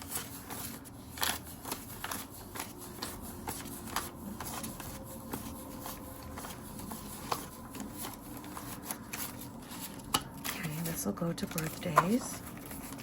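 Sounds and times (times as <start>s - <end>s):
banknotes flicking and rustling: 0.0s - 13.0s.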